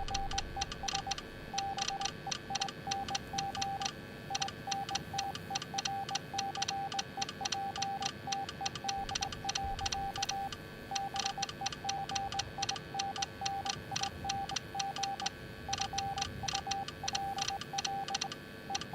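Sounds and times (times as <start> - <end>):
morse code beeps: 0.0 - 18.9.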